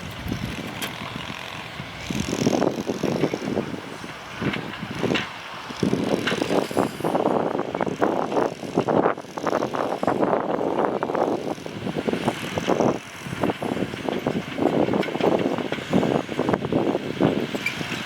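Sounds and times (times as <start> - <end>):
tractor engine rattling: 0.0 - 18.0.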